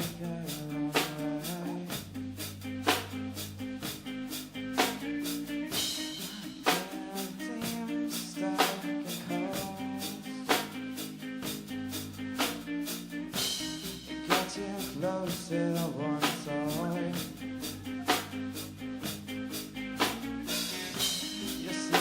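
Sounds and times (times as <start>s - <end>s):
band playing instrumental: 0.0s - 22.0s.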